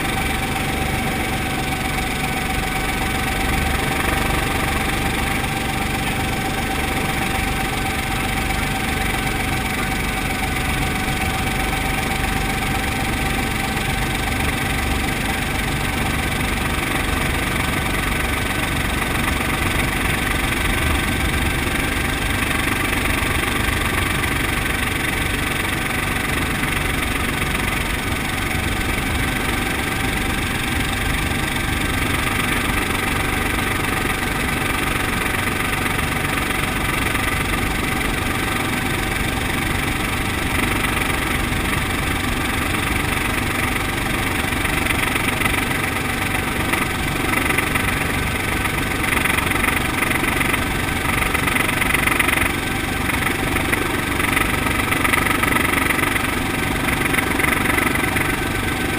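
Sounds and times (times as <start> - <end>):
helicopter engine and rotor: 0.0 - 58.9.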